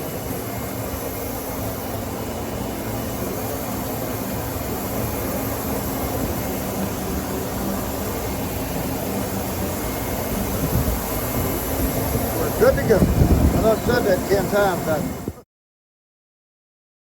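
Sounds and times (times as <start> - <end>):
shop machinery hum: 0.0 - 15.4.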